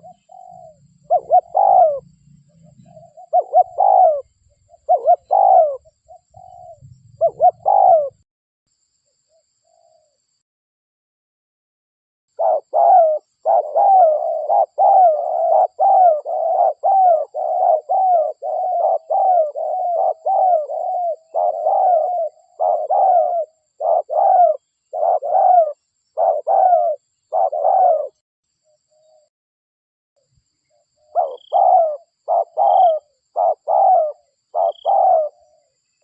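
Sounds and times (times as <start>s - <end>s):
dove cooing: 0.0s - 8.2s, 12.4s - 28.2s, 31.0s - 35.8s.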